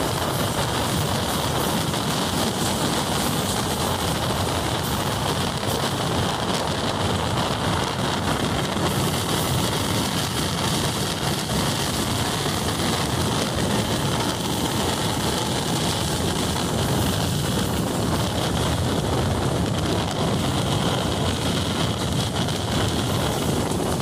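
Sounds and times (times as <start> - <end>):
moving train roar: 0.0 - 24.0.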